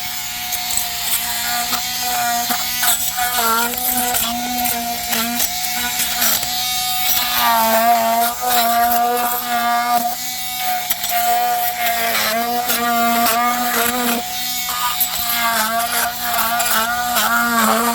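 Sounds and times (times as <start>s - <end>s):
oscillating multi-tool buzzing: 0.0s - 17.9s
blade scraping clicks on foam: 0.5s - 17.9s.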